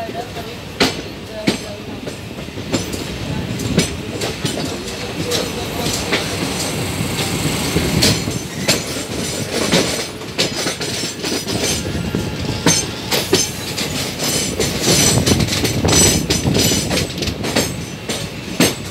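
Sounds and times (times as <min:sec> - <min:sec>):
train running rumble: 0:00.0 - 0:18.9
train wheels knocking over rail joints: 0:00.1 - 0:18.9.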